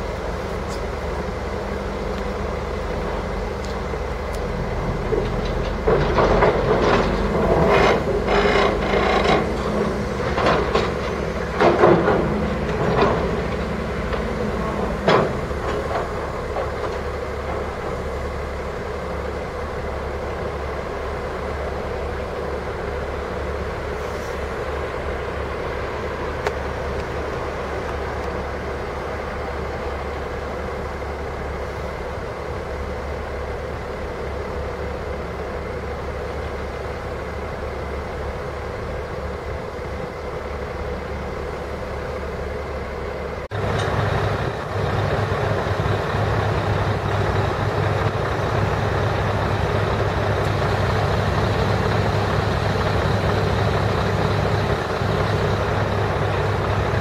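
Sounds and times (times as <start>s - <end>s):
deep engine running close by: 0.0s - 57.0s
heavy diesel engines running: 0.0s - 57.0s.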